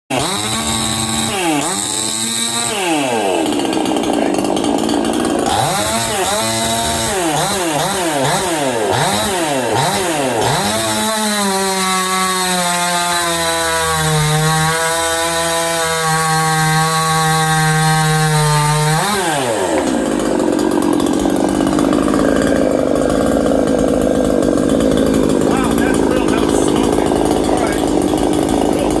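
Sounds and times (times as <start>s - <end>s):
chainsaw revving: 0.1s - 29.0s.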